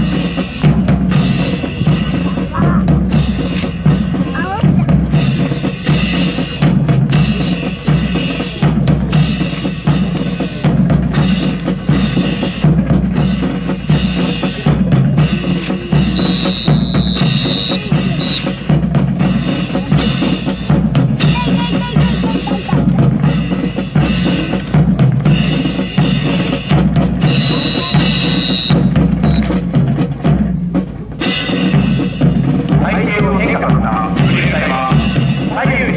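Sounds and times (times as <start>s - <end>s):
bass drum: 0.0s - 35.9s
snare drum: 0.0s - 35.9s.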